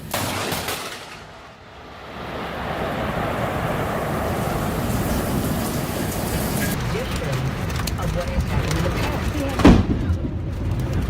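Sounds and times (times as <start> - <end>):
thunderclap: 0.0 - 11.0
storm wind on microphone: 1.5 - 11.0.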